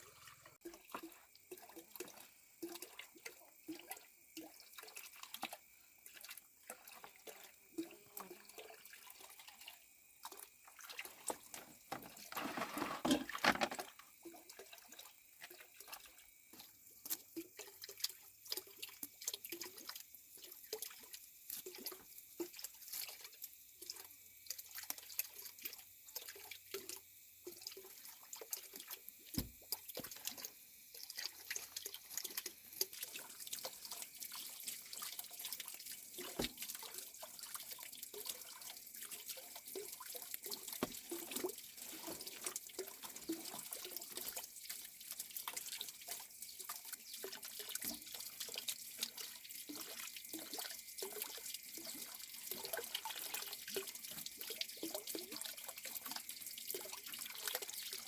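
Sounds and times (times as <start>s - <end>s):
water dripping and splashing: 0.0s - 58.0s.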